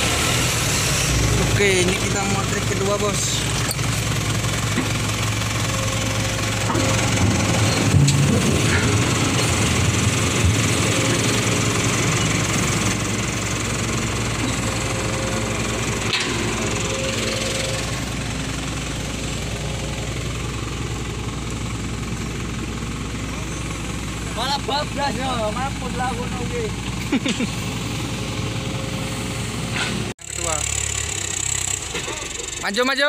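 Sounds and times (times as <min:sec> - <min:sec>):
excavator diesel engine: 0:00.0 - 0:33.0
truck engine idling: 0:00.0 - 0:33.0.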